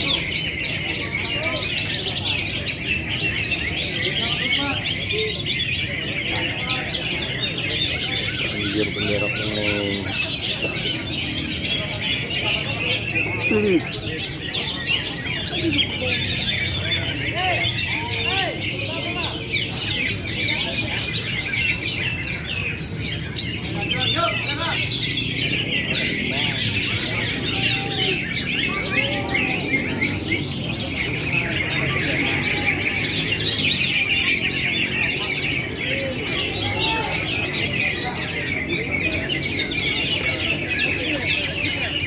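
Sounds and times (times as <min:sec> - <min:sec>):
murmur of crowd voices: 0:00.0 - 0:42.0
songbirds chirping and trilling: 0:00.0 - 0:42.0.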